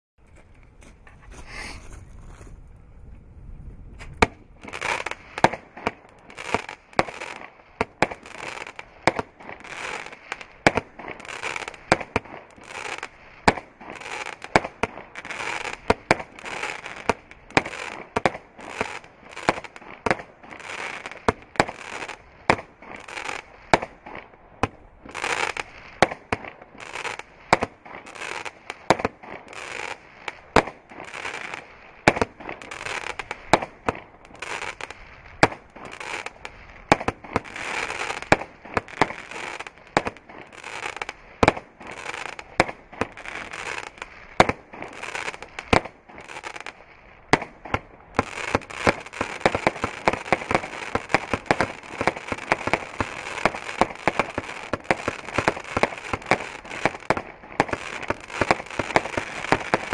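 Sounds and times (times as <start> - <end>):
crackling hiss of firework stars: 4.0 - 59.9.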